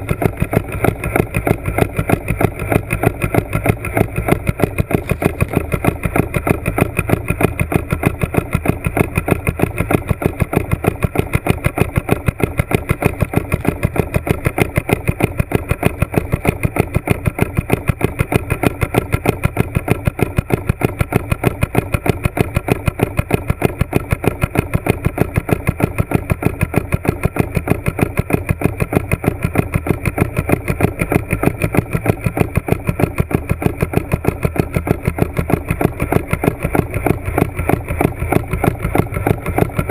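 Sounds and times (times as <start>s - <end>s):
motor running with fast pulsing: 0.0s - 39.9s.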